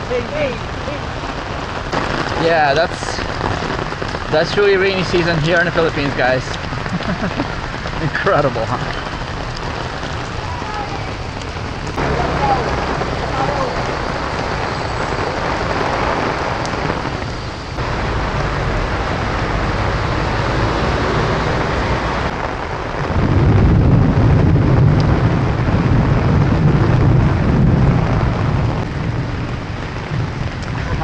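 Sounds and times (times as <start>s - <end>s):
heavy rain pouring: 0.0s - 31.0s
deep low rumble: 6.0s - 31.0s.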